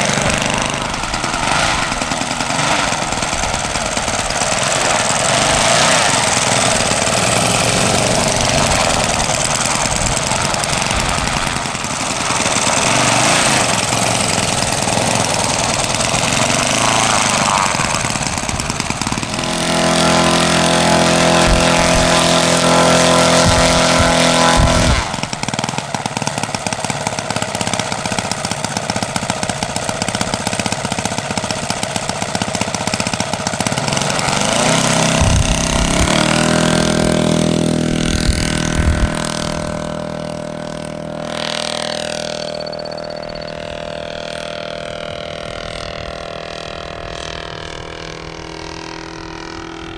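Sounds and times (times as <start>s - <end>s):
model airplane engine running: 0.0s - 49.9s.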